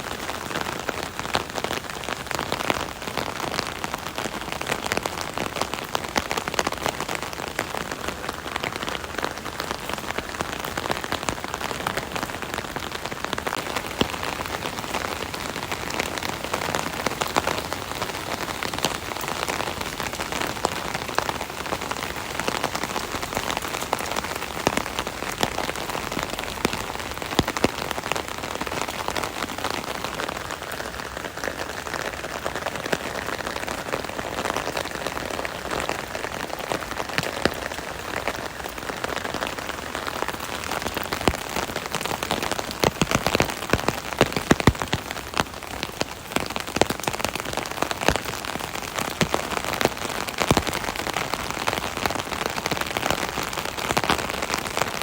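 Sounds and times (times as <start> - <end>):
rain drumming on an umbrella: 0.0 - 55.0.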